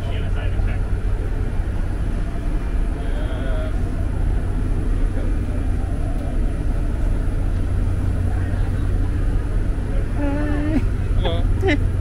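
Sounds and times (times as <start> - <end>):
trains rumbling: 0.0 - 12.0.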